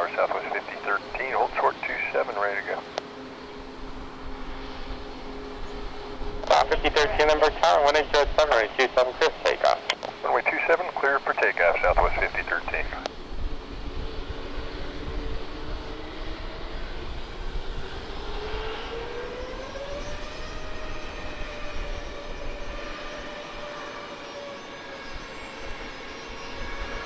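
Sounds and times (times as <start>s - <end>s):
jet engines spooling up: 0.0s - 27.0s
rising jet whine: 0.0s - 27.0s.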